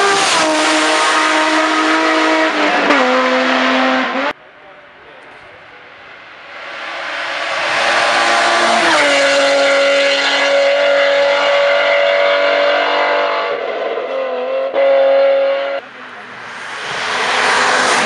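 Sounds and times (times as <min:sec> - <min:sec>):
race car engine at full throttle: 0:00.0 - 0:18.0.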